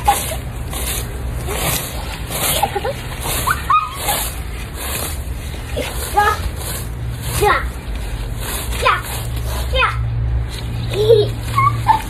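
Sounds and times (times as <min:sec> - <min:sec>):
leaf rake scratching across grass: 0:00.0 - 0:12.0.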